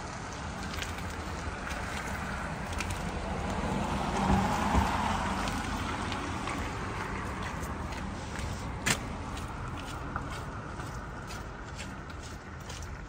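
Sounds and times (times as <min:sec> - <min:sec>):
car traffic: 0:00.0 - 0:13.0
faint footsteps on pavement: 0:00.0 - 0:13.0.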